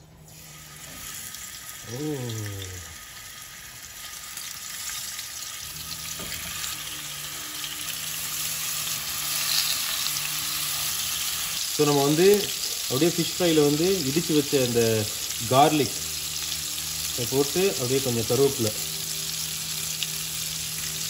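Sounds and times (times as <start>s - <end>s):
fish sizzling in hot oil: 0.3s - 21.0s.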